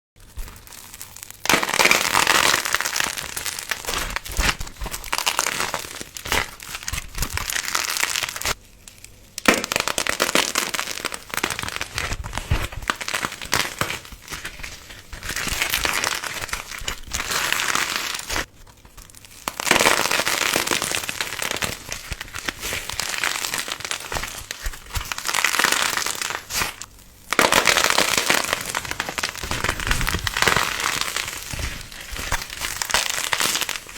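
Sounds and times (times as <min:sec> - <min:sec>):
crushing crackling and crunching: 0:00.2 - 0:33.9.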